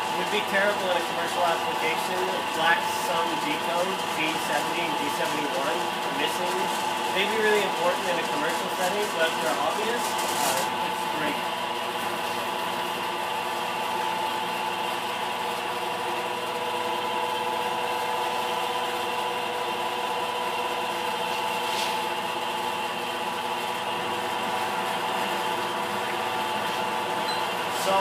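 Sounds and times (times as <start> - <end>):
milling machine humming with whine: 0.0 - 28.0.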